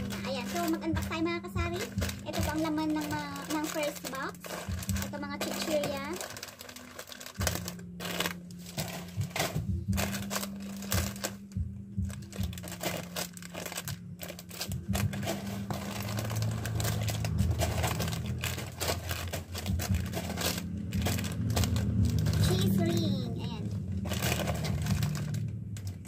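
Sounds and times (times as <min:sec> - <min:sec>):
plastic snack packets crinkling: 0:00.0 - 0:26.0.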